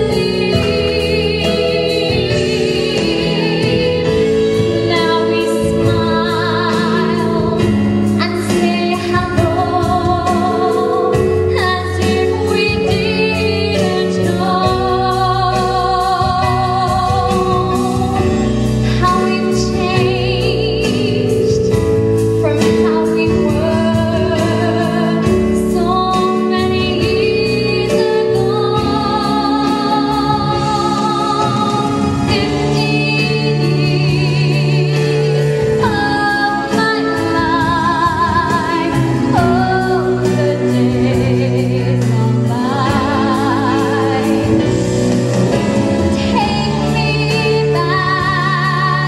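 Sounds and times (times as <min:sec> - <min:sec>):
instrumental accompaniment with held chords: 0:00.0 - 0:49.0
woman singing with vibrato: 0:00.0 - 0:49.0.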